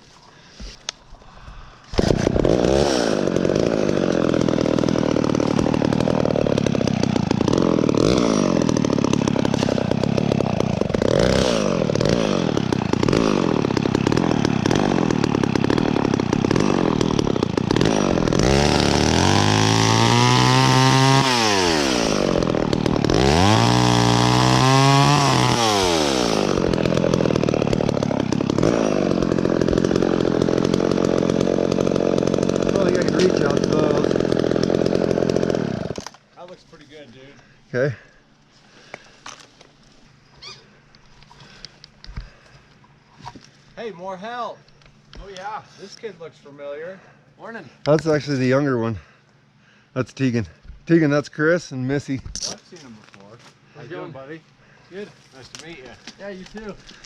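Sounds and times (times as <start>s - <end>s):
chainsaw cutting branches: 1.6s - 46.2s, 54.6s - 57.0s.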